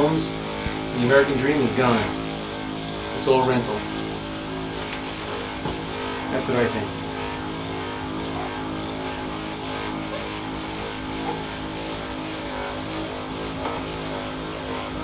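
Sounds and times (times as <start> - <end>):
electric massager motor hum: 0.0 - 15.0.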